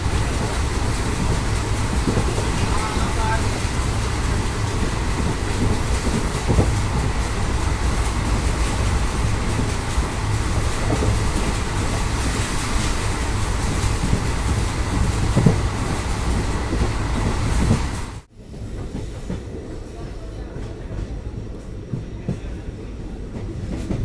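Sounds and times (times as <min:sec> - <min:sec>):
train wheels on track: 0:00.0 - 0:24.0.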